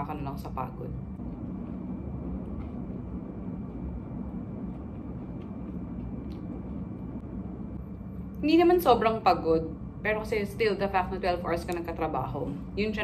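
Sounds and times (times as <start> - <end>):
faint high whine: 0.0 - 13.0
low room hum: 0.0 - 13.0.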